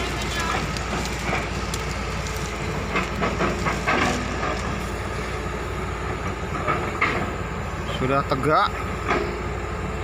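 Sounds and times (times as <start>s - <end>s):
heavy diesel engines under load: 0.0s - 10.0s.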